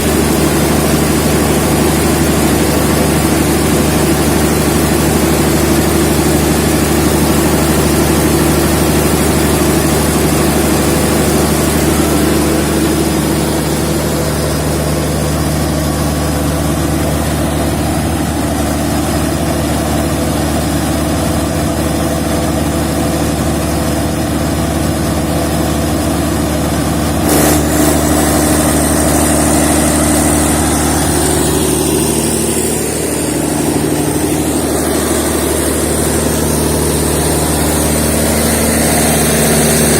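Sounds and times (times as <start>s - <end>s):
diesel generator humming: 0.0s - 39.9s.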